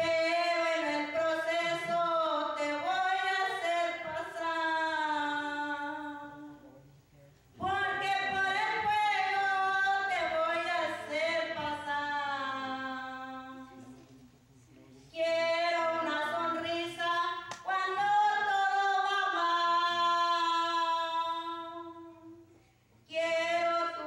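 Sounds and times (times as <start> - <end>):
woman singing unaccompanied: 0.0 - 6.6, 7.6 - 13.8, 15.2 - 22.5, 23.1 - 24.0.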